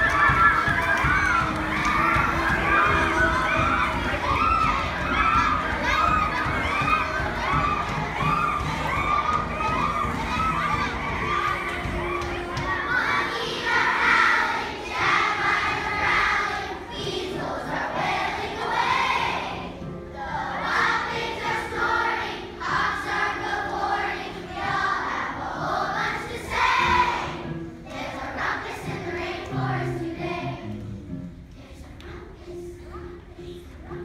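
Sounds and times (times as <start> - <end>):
children's choir singing: 0.0 - 34.0
music: 0.0 - 34.0.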